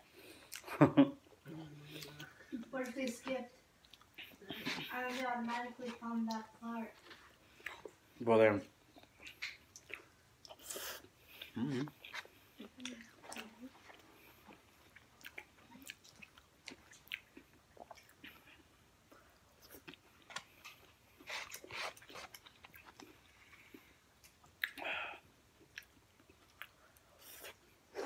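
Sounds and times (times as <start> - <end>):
people chewing food: 0.0 - 28.0.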